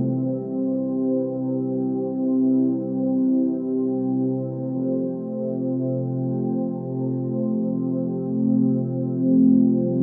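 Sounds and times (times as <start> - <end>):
ambient music with held notes: 0.0 - 10.0.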